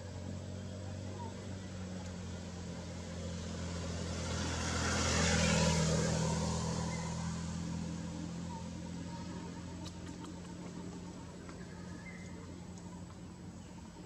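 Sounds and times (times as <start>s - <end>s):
vehicle driving past: 0.0s - 14.0s.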